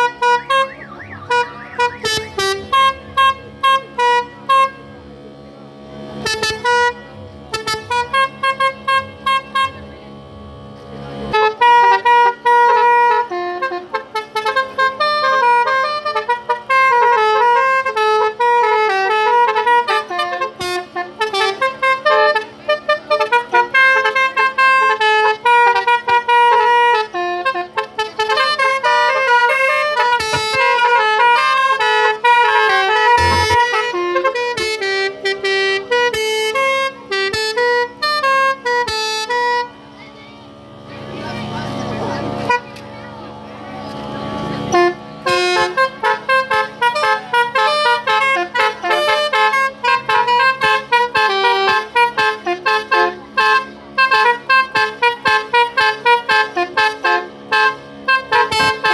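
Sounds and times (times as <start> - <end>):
multi-tone car horn tune: 0.0 - 39.9, 41.8 - 42.8, 44.6 - 58.9.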